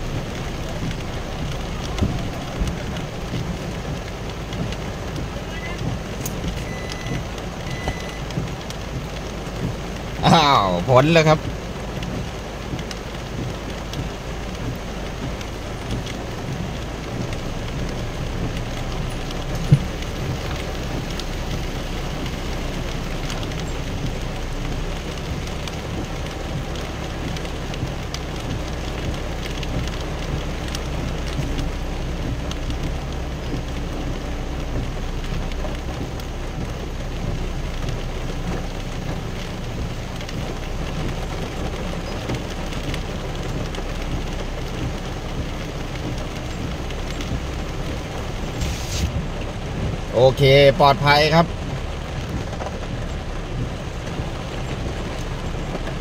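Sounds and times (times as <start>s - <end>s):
heavy rain drumming on car roof: 0.0s - 56.0s
low vehicle rumble: 0.0s - 56.0s.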